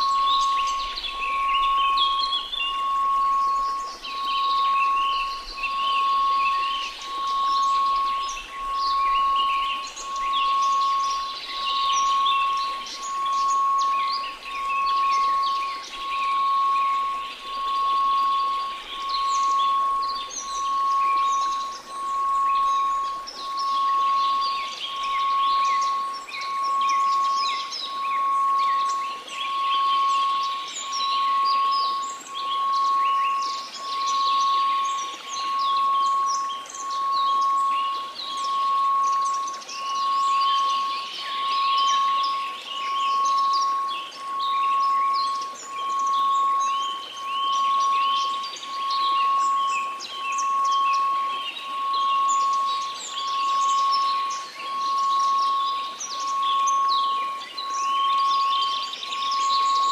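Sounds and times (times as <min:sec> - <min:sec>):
birds chirping: 0:00.0 - 0:59.9
sine tone: 0:00.0 - 0:59.9.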